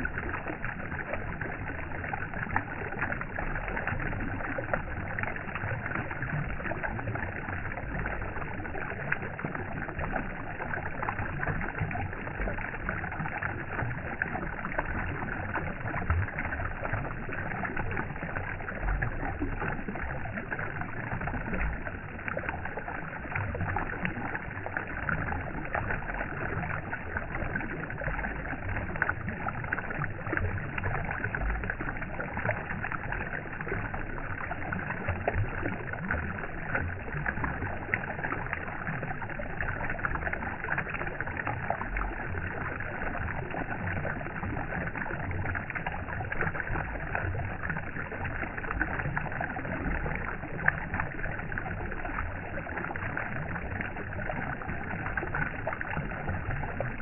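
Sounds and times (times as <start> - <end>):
water flowing and splashing: 0.0 - 57.0.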